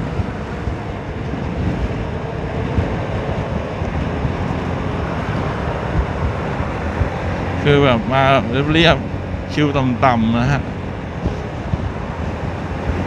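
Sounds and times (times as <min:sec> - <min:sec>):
road noise: 0:00.0 - 0:13.0
wind rush over microphone: 0:00.0 - 0:13.0.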